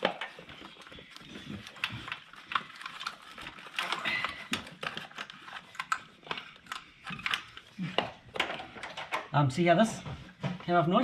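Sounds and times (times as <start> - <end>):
hand tools clicking and knocking: 0.0 - 11.0.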